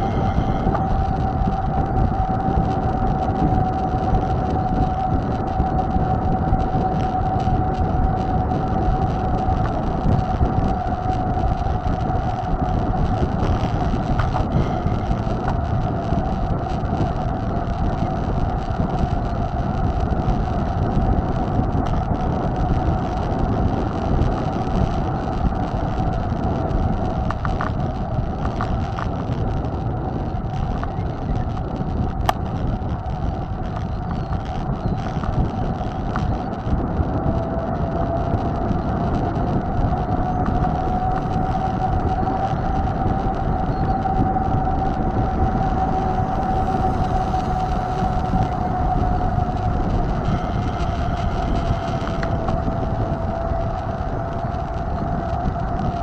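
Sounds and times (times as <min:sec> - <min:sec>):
high whine: 0:00.0 - 0:56.0
wind and rolling rumble: 0:00.0 - 0:56.0.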